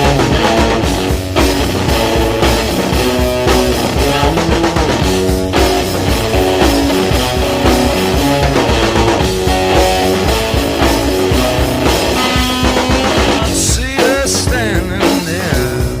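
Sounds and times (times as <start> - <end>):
drum kit beat: 0.0 - 16.0
electric guitar: 0.0 - 16.0.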